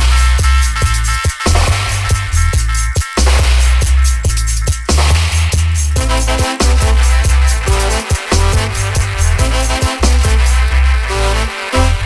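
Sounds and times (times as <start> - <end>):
drums and percussion: 0.0 - 12.0
heavy bass line: 0.0 - 12.0.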